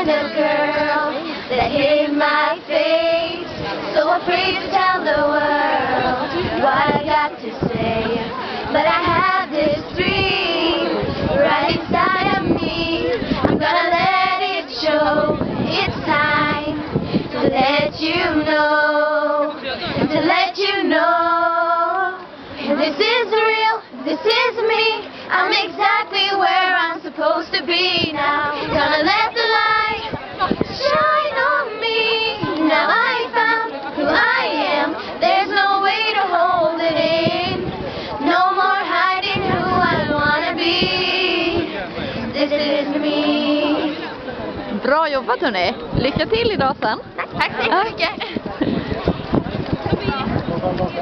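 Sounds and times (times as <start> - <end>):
girls singing unaccompanied: 0.0 - 44.9.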